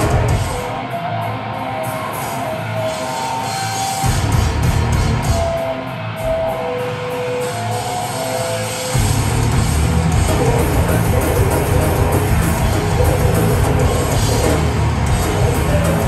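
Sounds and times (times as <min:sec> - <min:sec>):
metalcore band playing live: 0:00.0 - 0:16.0.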